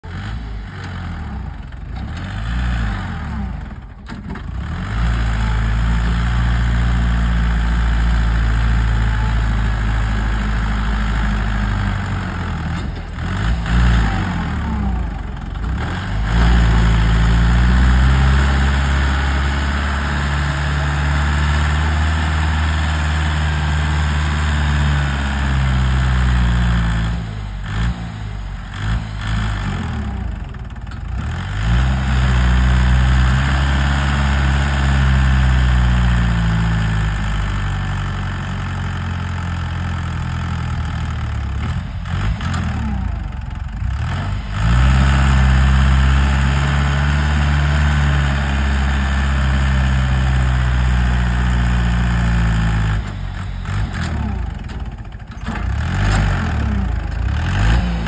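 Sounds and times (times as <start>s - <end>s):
tractor diesel engine straining: 0.0s - 58.0s.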